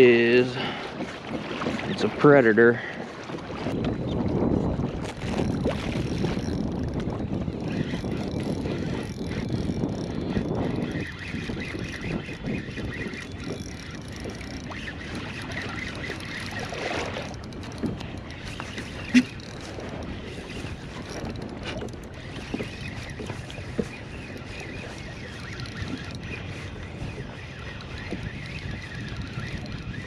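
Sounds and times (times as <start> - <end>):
water lapping against hull: 0.0 - 30.0
wind buffeting microphone: 0.0 - 30.0.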